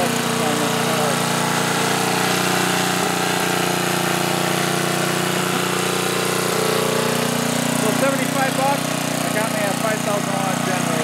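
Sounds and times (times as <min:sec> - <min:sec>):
generator engine humming: 0:00.0 - 0:11.0.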